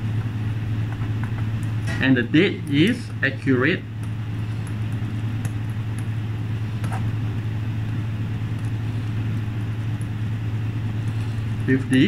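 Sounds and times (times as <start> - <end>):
low equipment hum: 0.0 - 12.0.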